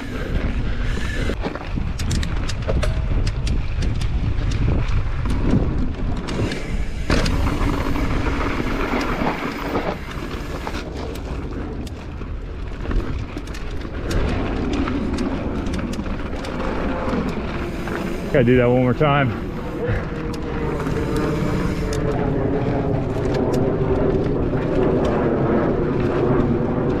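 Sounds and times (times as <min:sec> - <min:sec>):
bike clicking and rattling: 0:00.0 - 0:27.0
wind rushing over microphone: 0:00.0 - 0:27.0.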